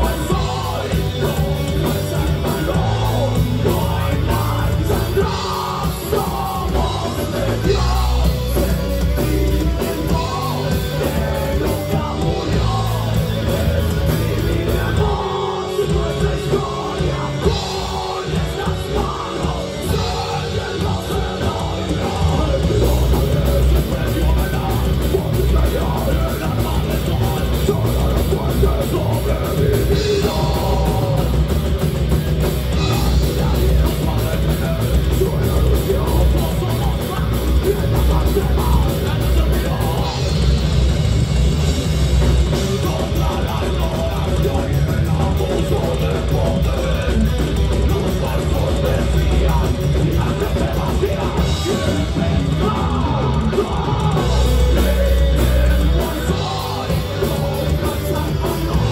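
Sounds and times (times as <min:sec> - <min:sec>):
person singing: 0:00.0 - 0:40.6, 0:42.4 - 0:58.9
heavy metal band playing live: 0:00.0 - 0:58.9.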